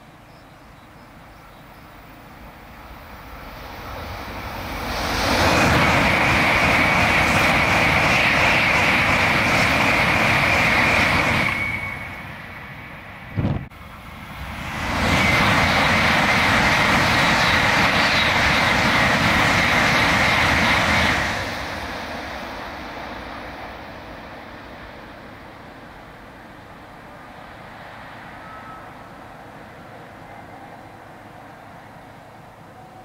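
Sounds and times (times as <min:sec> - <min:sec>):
high-speed train rushing past: 0:00.0 - 0:33.0.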